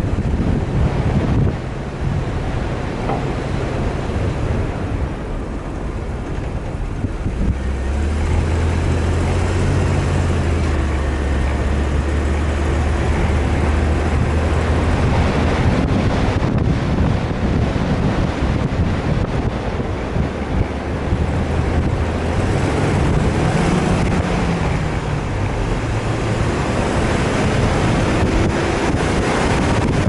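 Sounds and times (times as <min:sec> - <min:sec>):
vehicle engine humming: 0:00.0 - 0:30.0
wind noise: 0:00.0 - 0:30.0.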